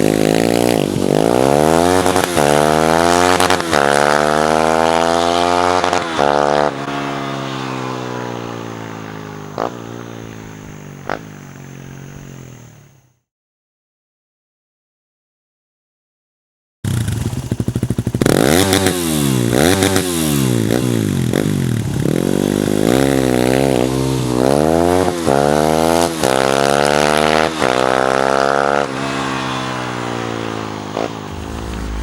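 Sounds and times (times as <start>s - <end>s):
motorcycle engine revving: 0.0s - 13.1s, 16.9s - 32.0s.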